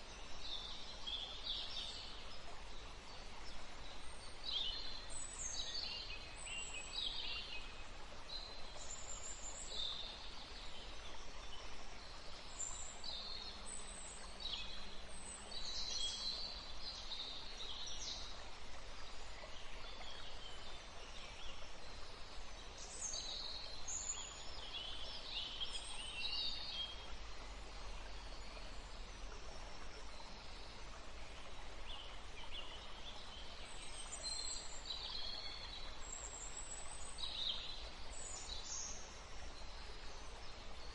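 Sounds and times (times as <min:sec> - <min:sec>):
background hiss: 0:00.0 - 0:40.9
songbirds chirping and trilling: 0:00.0 - 0:40.9.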